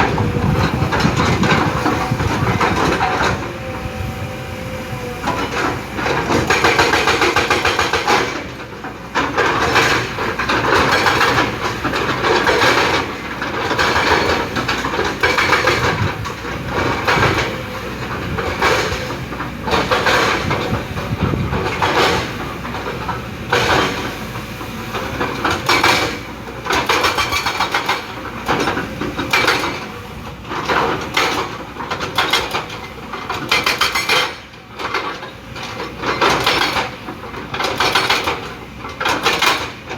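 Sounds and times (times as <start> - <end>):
excavator engine under load: 0.0 - 39.9.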